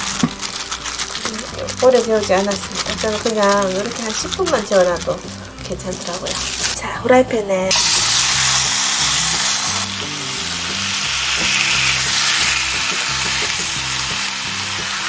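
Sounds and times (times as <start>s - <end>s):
pork ribs sizzling in a pan: 0.0s - 6.8s, 7.7s - 15.0s.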